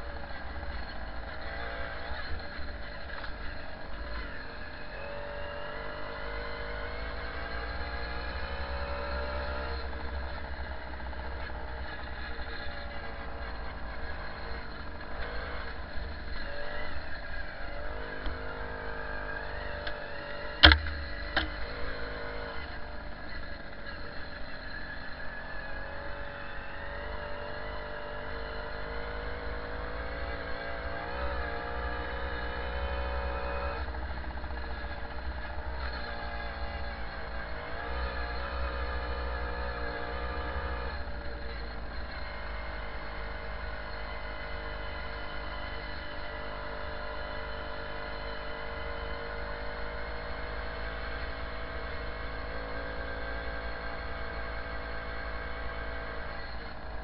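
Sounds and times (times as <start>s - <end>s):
moped engine running: 0.0s - 57.0s.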